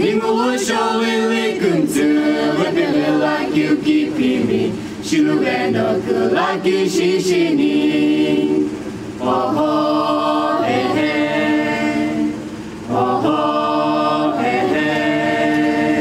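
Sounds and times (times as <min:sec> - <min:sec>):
mixed choir singing a cappella: 0:00.0 - 0:16.0.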